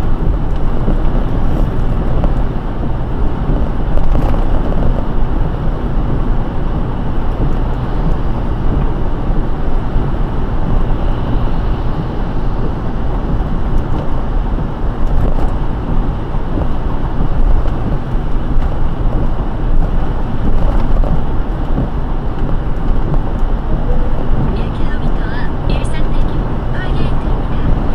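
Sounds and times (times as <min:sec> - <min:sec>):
car tyres on wet road: 0:00.0 - 0:27.9.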